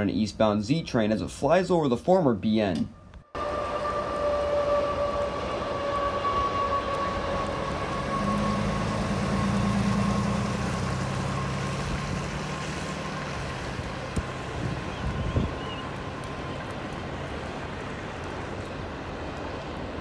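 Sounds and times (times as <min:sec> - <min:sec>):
low drone: 0:02.9 - 0:20.0
train rumbling past: 0:03.3 - 0:20.0.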